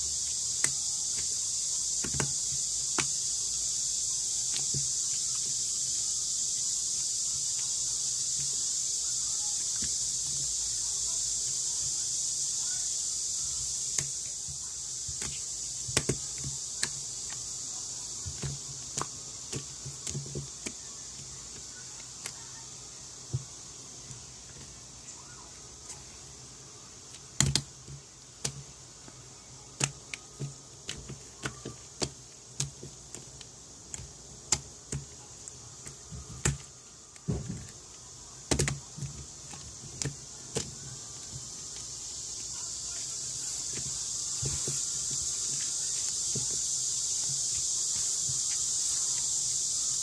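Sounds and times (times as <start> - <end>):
steady hiss: 0.0 - 50.0.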